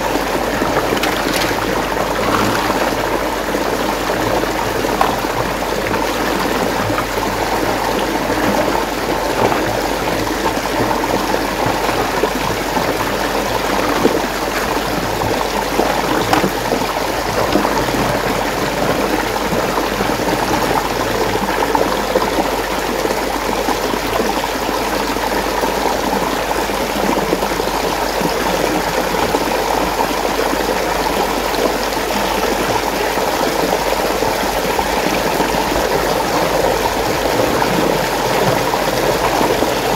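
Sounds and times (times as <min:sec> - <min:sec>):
water swirling in a whirlpool: 0:00.0 - 0:39.9.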